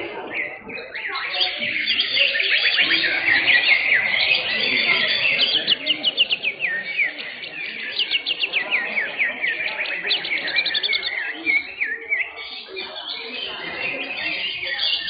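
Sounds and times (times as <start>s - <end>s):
caged birds singing: 0.0s - 15.0s.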